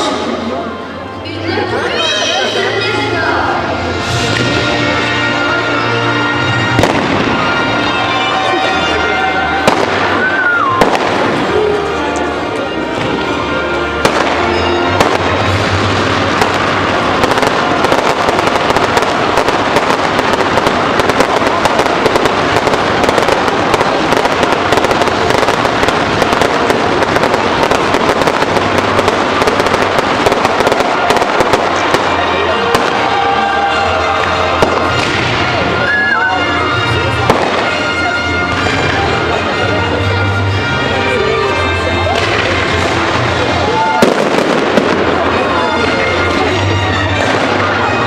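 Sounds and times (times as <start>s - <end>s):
music playing: 0.0s - 48.0s
fireworks bursting and crackling: 3.3s - 40.6s, 42.0s - 48.0s.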